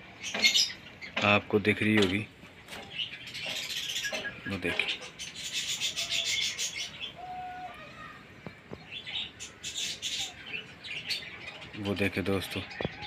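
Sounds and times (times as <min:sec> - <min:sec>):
budgerigars chattering and chirping: 0:00.2 - 0:07.3, 0:08.4 - 0:13.0.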